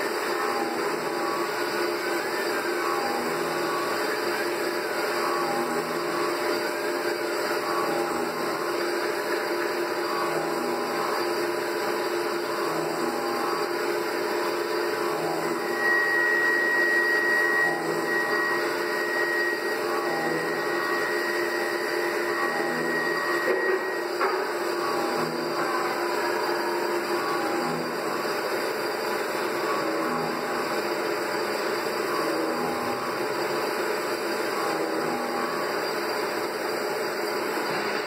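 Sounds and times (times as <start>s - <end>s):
high cutting whine: 0.0s - 38.0s
milling machine running: 0.0s - 38.0s.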